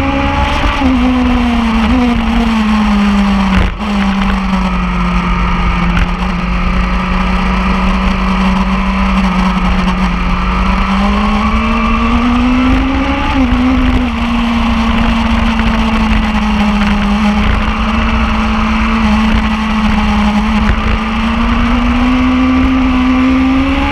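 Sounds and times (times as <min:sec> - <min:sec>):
continuous low rumble: 0:00.0 - 0:22.2
engine at high revs: 0:00.0 - 0:23.9.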